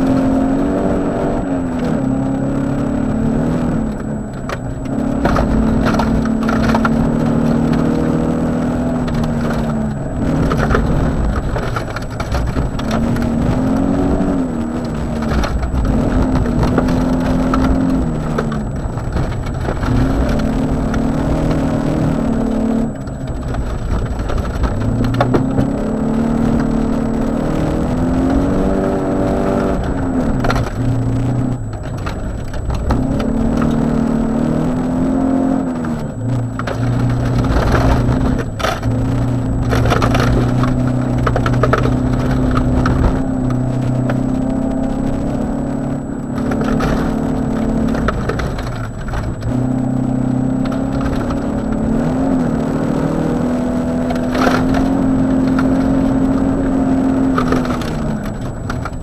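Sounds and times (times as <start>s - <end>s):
gravel pinging against car underside: 0.0s - 59.0s
rally car engine revving: 0.0s - 59.0s.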